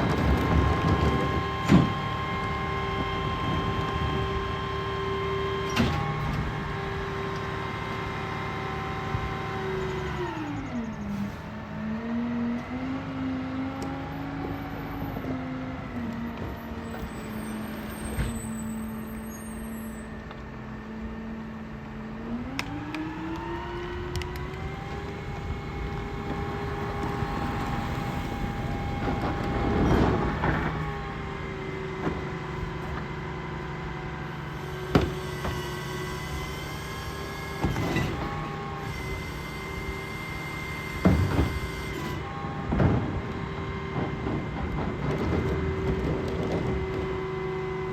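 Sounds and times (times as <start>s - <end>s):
diesel truck engine idling and revving: 0.0s - 47.9s.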